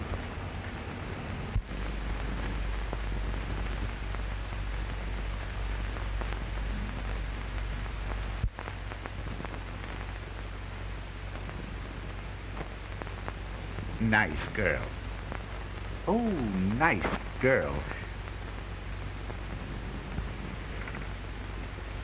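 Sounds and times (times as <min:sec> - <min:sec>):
film soundtrack crackling hiss: 0:00.0 - 0:22.0
low hum: 0:00.0 - 0:22.0.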